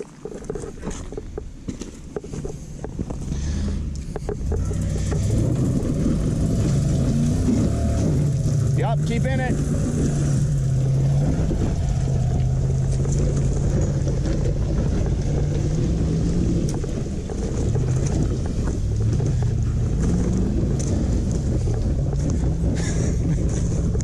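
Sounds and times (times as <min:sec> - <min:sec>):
engine pulling hard under load: 0:02.8 - 0:24.0.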